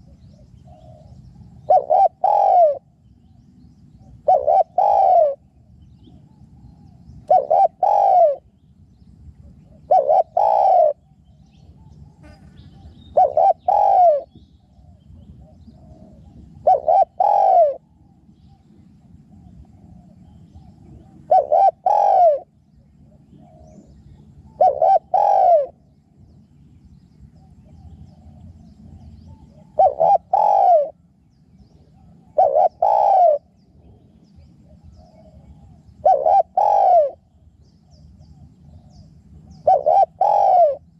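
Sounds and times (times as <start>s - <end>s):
dove cooing: 0.0s - 3.0s, 4.0s - 8.6s, 9.4s - 25.9s, 27.4s - 40.9s.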